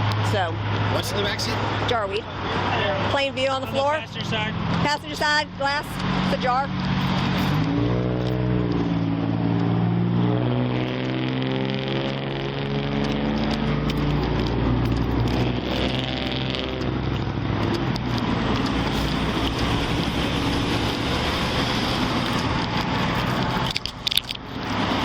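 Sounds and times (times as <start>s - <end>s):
rush of traffic noise: 0.0s - 25.0s
vehicle engine running: 0.0s - 25.0s.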